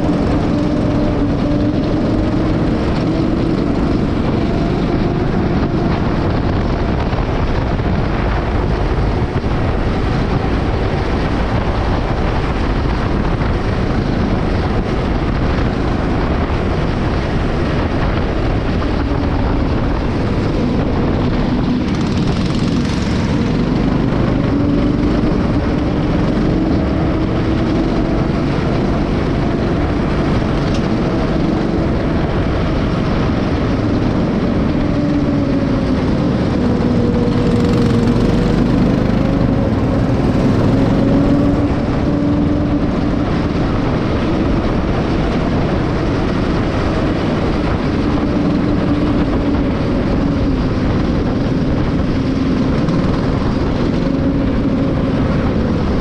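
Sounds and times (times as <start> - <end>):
go-kart engine running hard: 0.0 - 56.0
wind noise: 0.0 - 56.0.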